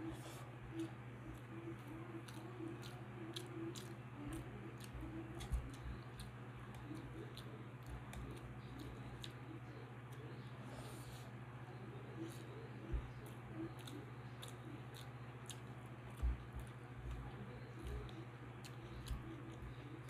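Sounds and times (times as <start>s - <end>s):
steady low hum: 0.0s - 20.0s
person chewing with wet mouth clicks: 0.7s - 9.5s, 12.3s - 20.0s.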